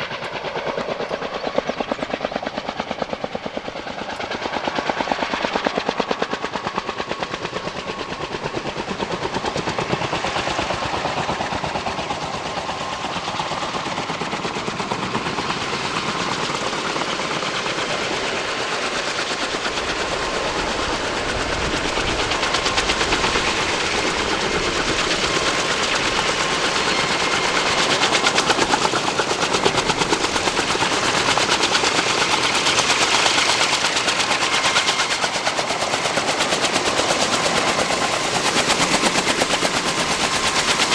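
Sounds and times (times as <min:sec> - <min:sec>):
helicopter rotors chopping: 0:00.0 - 0:40.9.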